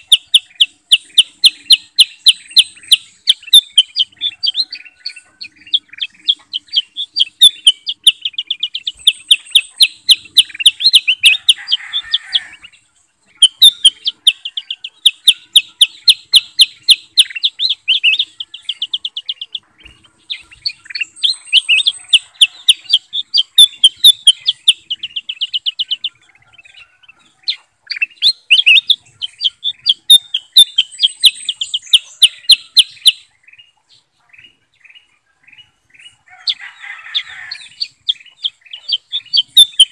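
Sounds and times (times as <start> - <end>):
bulbuls singing fast high chirps: 0.0 - 39.9.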